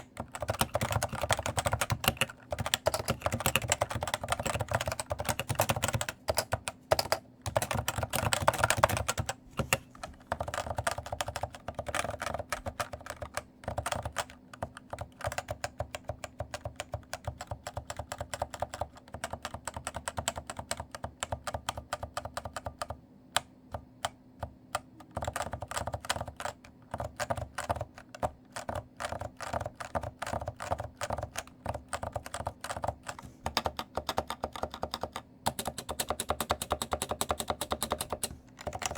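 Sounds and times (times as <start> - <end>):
typing on a keyboard: 0.0 - 38.9.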